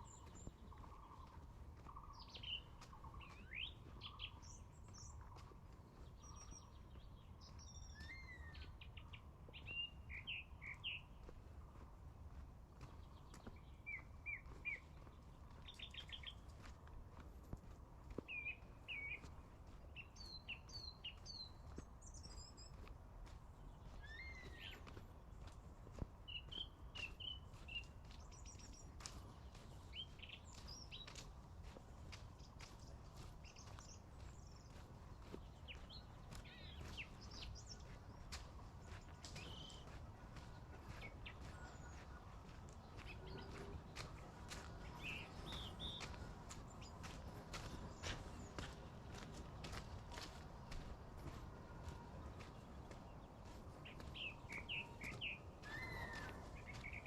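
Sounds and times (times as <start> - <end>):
footsteps on trail: 0.0 - 57.0
small birds chirping and twittering: 0.0 - 57.0.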